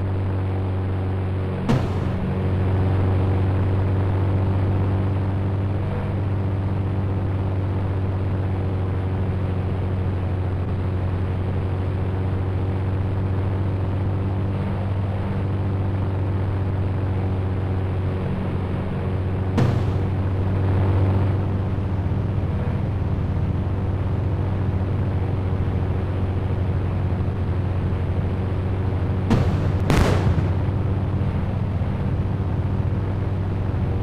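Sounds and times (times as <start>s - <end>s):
helicopter engine and rotor: 0.0s - 34.0s.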